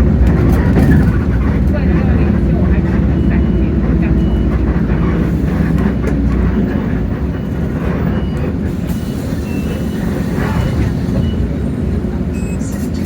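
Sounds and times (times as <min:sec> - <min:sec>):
bus diesel engine running: 0:00.0 - 0:13.0
cabin and road rumble: 0:00.0 - 0:13.0.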